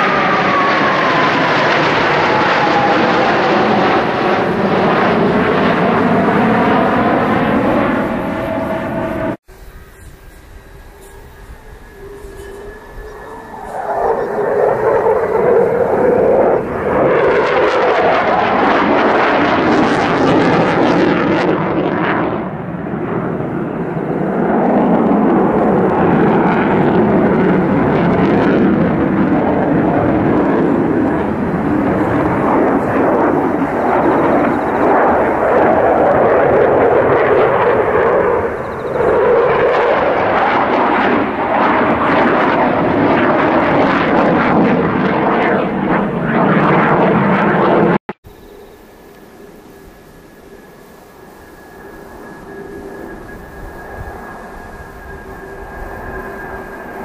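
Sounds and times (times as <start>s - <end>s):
fighter jet engines roaring: 0.0s - 57.0s.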